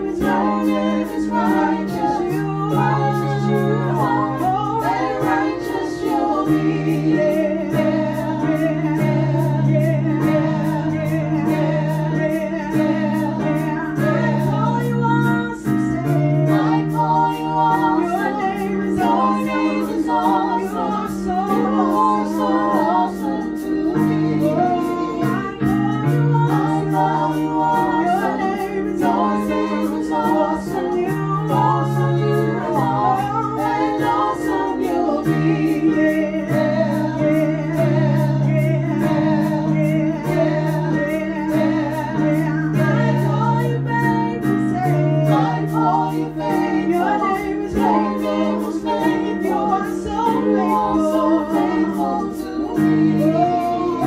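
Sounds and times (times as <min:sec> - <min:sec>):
digital piano chords: 0:00.0 - 0:54.0
group singing praise song: 0:00.0 - 0:54.0.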